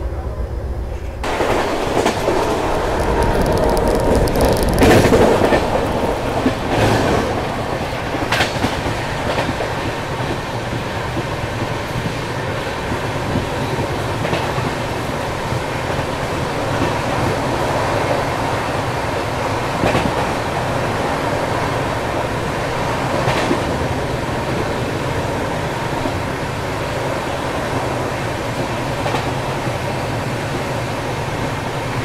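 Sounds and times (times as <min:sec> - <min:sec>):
train wheels rumbling on rail: 0:00.0 - 0:32.0
wheels clacking over rail joints: 0:01.0 - 0:32.0.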